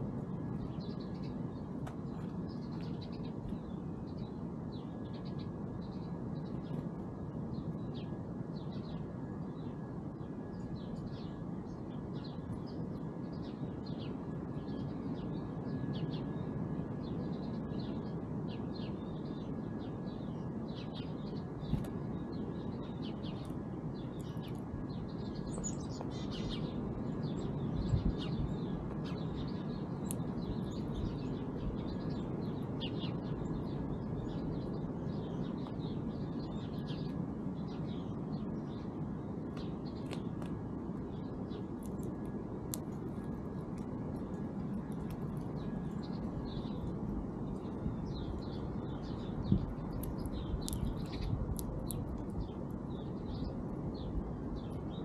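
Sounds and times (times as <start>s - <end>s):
low background rumble: 0.0s - 55.0s
small songbirds chirping: 0.0s - 55.0s.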